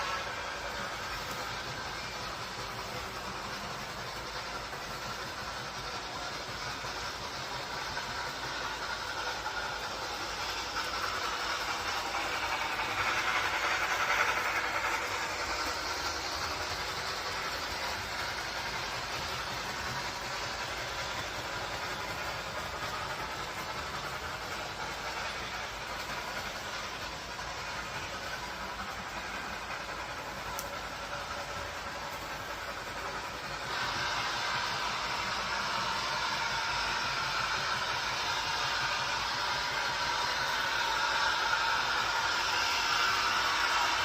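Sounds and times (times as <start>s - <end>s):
train running by: 0.0s - 44.0s.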